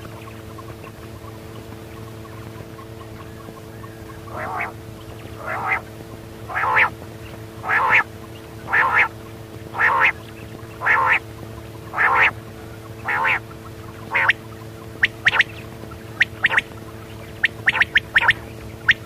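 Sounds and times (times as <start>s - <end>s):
faint steady hum: 0.0s - 19.0s
quail calling: 2.0s - 19.0s.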